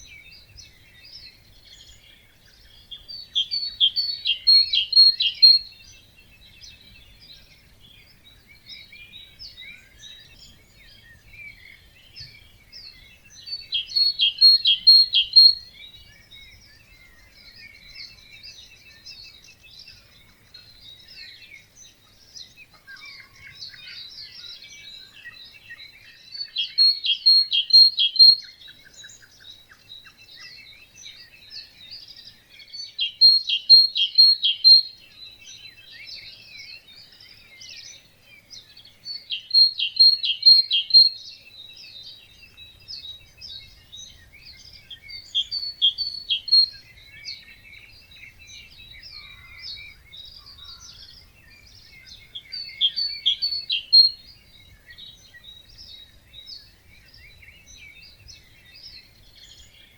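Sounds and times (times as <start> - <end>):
close bird loud short song: 0.0 - 59.9
songbirds singing in chorus: 0.0 - 59.9.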